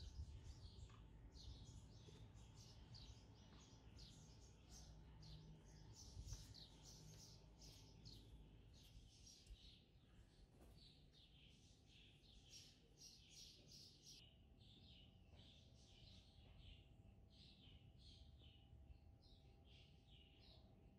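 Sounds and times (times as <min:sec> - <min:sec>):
small birds chirping rapidly: 0:00.0 - 0:20.9.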